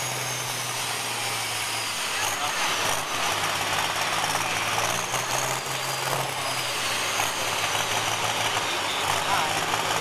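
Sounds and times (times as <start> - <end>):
heavy vehicle engine running: 0.0 - 10.0.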